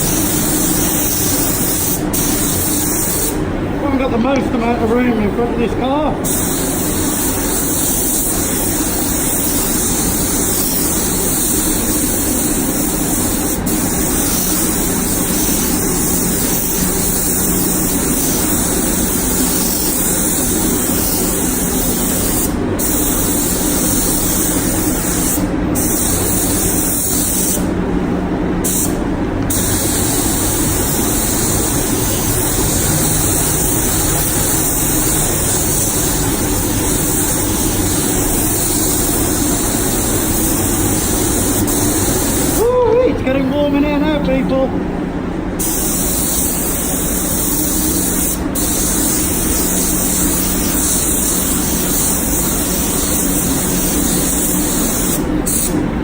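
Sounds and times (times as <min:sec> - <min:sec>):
spray gun hissing: 0:00.0 - 0:27.8, 0:28.6 - 0:43.7, 0:45.6 - 0:55.8.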